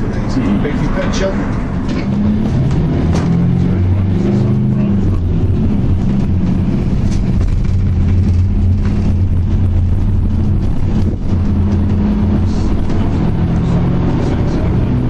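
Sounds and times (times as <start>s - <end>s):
bus engine humming: 0.0s - 15.0s
road noise: 0.0s - 15.0s.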